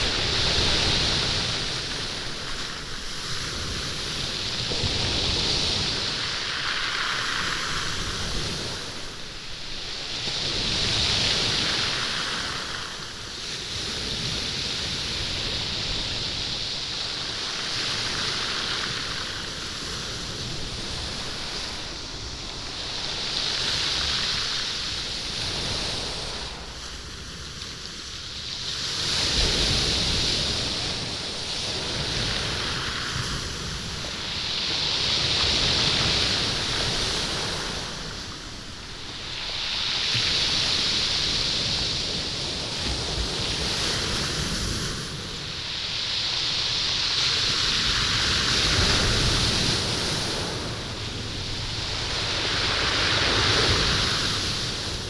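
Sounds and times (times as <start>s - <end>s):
waves washing over stony beach: 0.0s - 55.0s.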